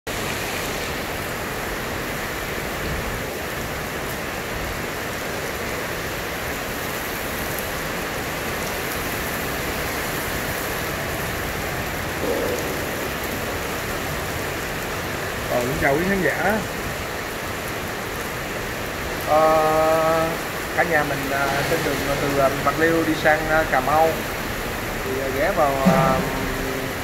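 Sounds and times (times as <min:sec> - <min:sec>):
heavy rain on pavement and roofs: 0:00.1 - 0:27.0.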